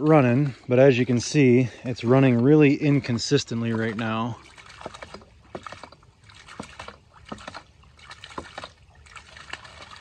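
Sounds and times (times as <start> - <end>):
water spurting and splashing: 0.0 - 10.0.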